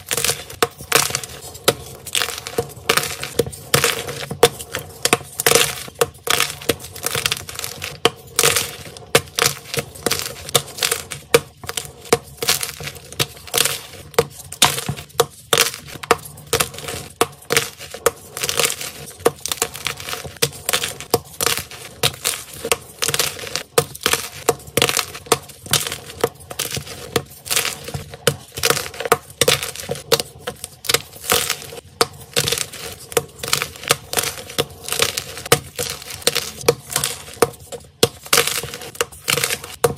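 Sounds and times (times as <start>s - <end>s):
chalk cracking and crunching: 0.0s - 39.9s.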